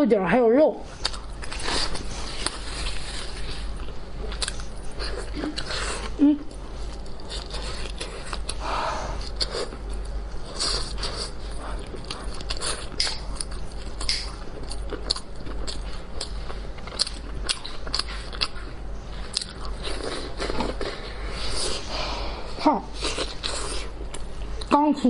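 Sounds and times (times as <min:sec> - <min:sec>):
biting and chewing: 0:01.0 - 0:08.6, 0:09.2 - 0:21.8.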